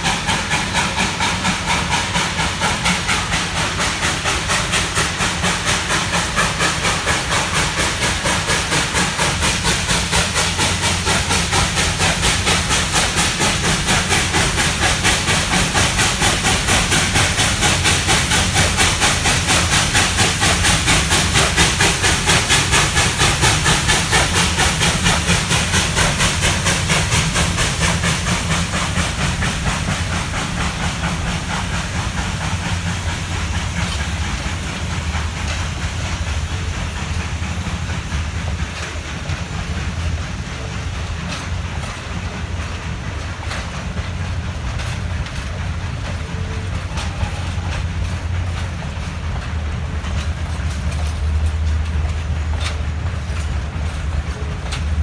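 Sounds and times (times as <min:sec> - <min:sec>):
rail-joint clicks: 0:00.0 - 0:55.0
steam locomotive chuffing: 0:00.0 - 0:55.0.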